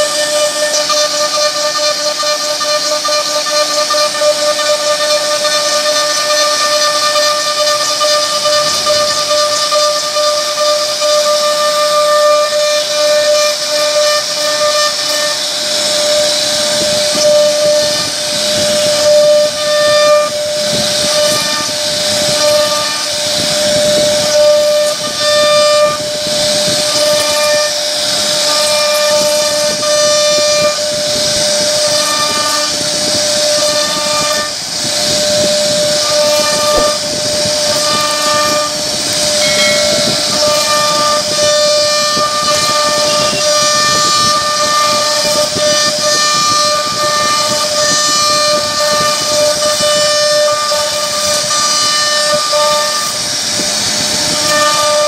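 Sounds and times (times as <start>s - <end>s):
hiss of bit cutting wood: 0.0s - 55.0s
router spindle whining: 0.0s - 55.0s.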